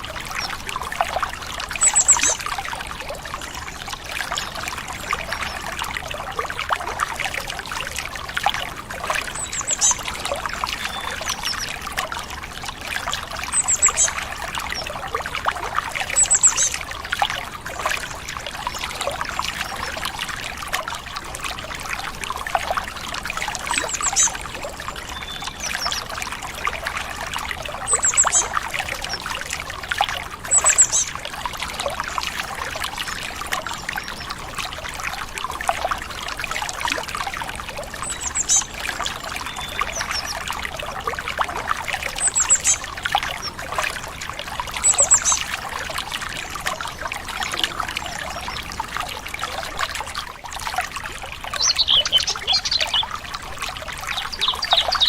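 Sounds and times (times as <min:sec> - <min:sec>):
stream trickling and splashing: 0:00.0 - 0:55.0.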